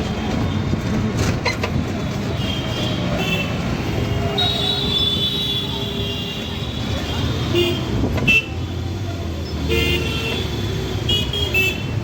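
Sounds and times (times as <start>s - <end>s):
rickshaw road rumble: 0.0s - 12.0s.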